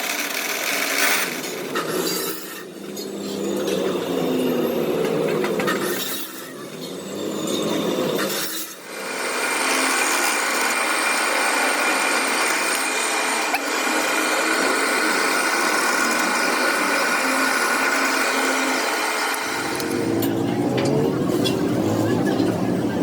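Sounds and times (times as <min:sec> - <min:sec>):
power tool running on metal: 0:00.0 - 0:21.8.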